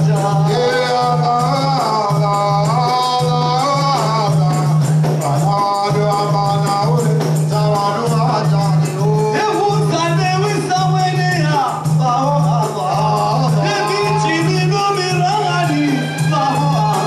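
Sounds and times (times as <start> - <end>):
voices singing: 0.0 - 9.9, 12.0 - 17.0
hand percussion: 0.0 - 17.0.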